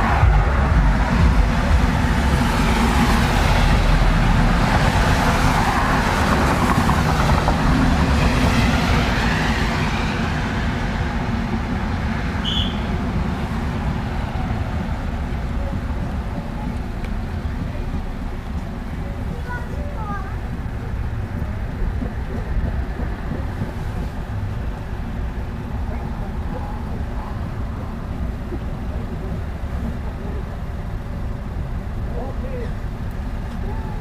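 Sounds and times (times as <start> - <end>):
low engine hum: 0.0 - 34.0.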